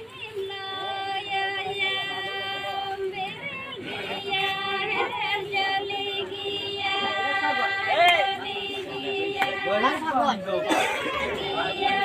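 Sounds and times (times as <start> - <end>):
singing voices: 0.0 - 12.0.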